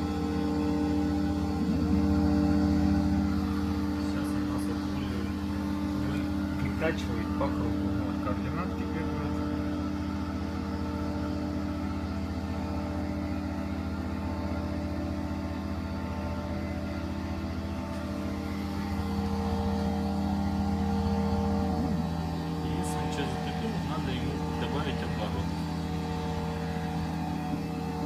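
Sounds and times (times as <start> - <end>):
mill motor hum: 0.0 - 28.0.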